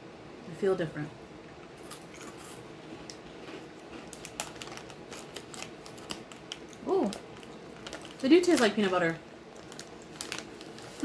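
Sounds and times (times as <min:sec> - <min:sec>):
crunchy snacks being chewed: 0:01.9 - 0:11.0.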